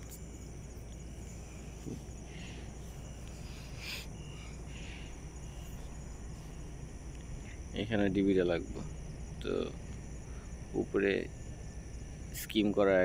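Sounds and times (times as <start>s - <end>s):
faint high-pitched chirping: 0.0s - 13.0s
steady background hum: 0.0s - 13.0s.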